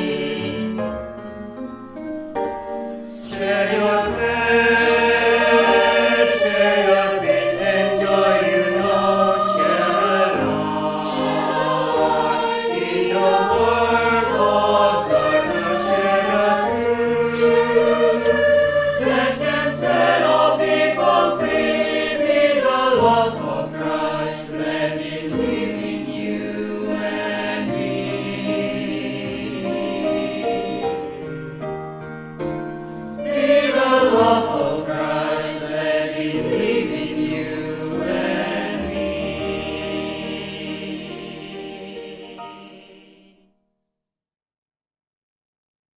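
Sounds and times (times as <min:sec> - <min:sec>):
choir singing: 0:00.0 - 0:02.2, 0:02.9 - 0:43.5.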